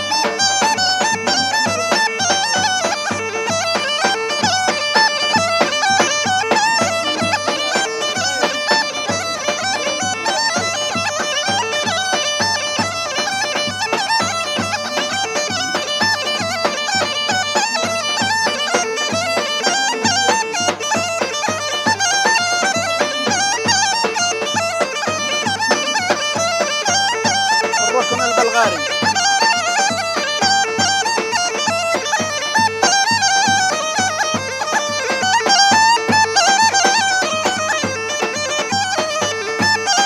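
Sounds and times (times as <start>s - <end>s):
bagpipe playing folk tune: 0.0s - 40.0s
drum beating rhythm: 0.0s - 40.0s.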